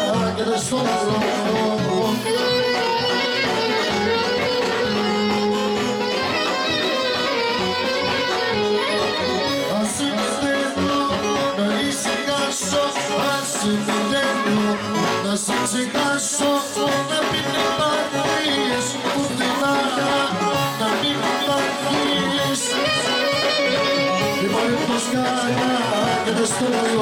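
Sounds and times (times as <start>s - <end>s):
electronic keyboard: 0.0s - 27.0s
man singing into a microphone: 0.0s - 27.0s.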